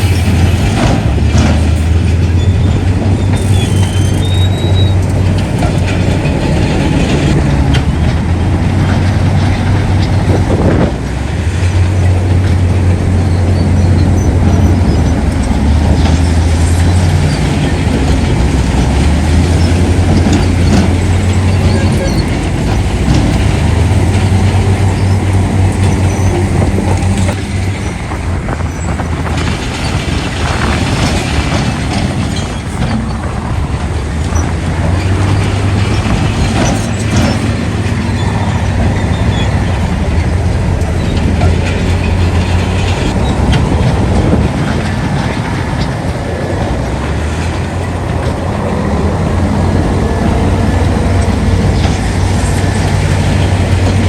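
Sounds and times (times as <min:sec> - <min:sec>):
heavy diesel engine hum: 0:00.0 - 0:54.0
steel crawler tracks clattering: 0:00.0 - 0:54.0.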